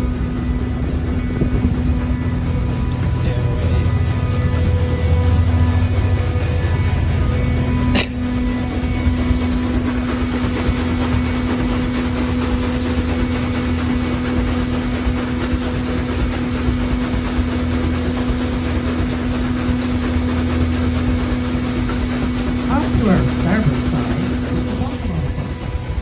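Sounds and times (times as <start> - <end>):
boat engine hum and rumble: 0.0 - 26.0
churned water wash: 0.0 - 26.0.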